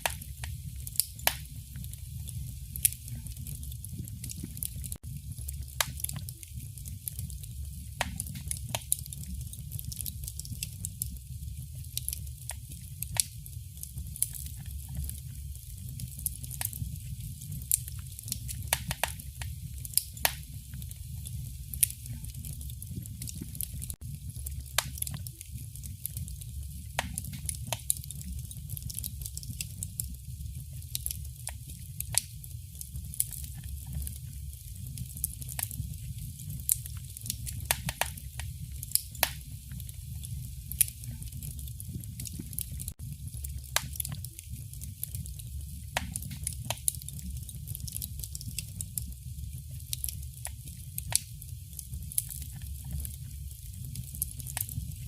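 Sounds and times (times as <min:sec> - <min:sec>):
fire crackling and popping: 0:00.0 - 0:55.0
low fire rumble: 0:00.0 - 0:55.0.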